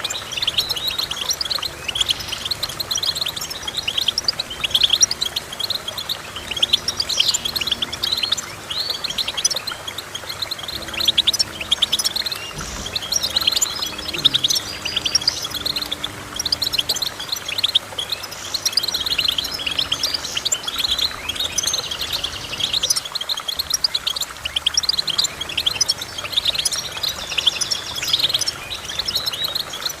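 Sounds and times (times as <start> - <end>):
finch twittering song: 0.0 - 30.0.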